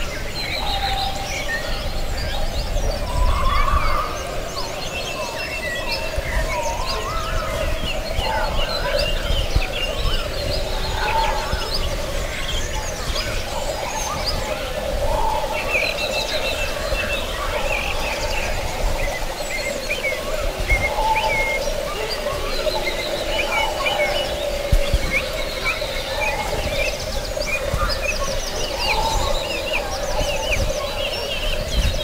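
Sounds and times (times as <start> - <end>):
songbirds chirping and singing: 0.0 - 32.0.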